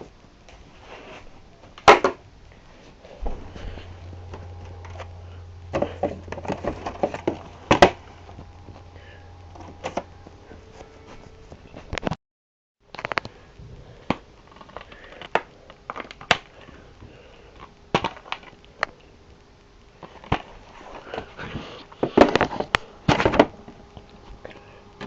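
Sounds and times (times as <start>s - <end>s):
faint steady hum: 0.0s - 12.2s, 12.9s - 25.0s.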